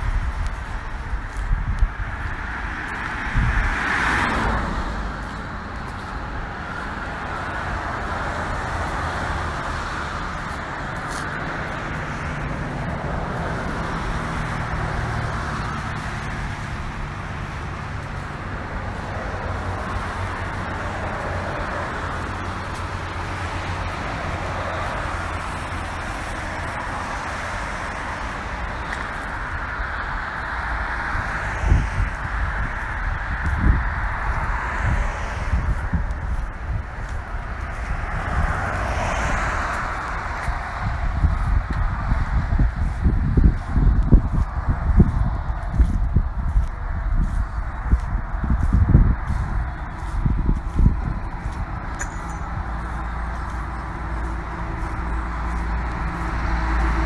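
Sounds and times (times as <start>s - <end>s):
road traffic noise: 0.0s - 57.0s
vehicle passing: 0.0s - 57.0s.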